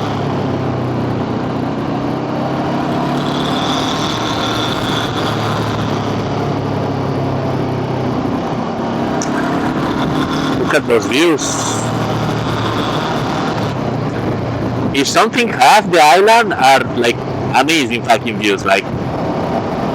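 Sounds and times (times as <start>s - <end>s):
motorbike engine cruising: 0.0s - 19.9s
wind and road noise: 0.0s - 19.9s.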